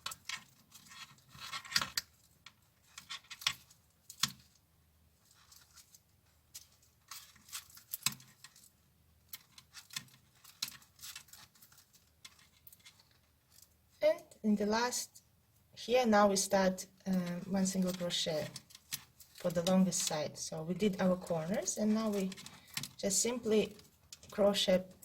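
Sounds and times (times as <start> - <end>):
paper yarn rustling and crinkling: 0.0 - 14.0, 17.2 - 25.0.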